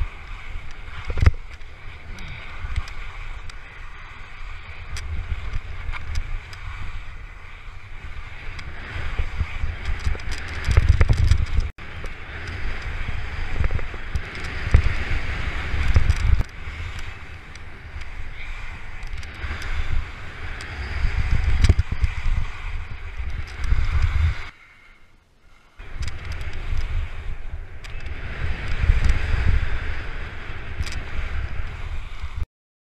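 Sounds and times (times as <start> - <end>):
skis scraping over snow: 0.0 - 24.5, 25.6 - 32.4
wind buffeting microphone: 0.0 - 24.6, 25.8 - 32.4.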